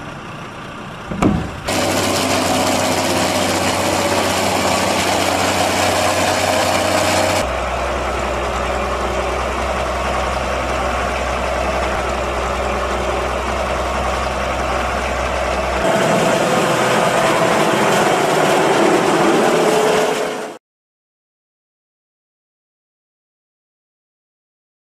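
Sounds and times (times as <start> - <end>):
forage harvester engine: 0.0 - 20.6
tractor diesel engine running: 0.0 - 20.6.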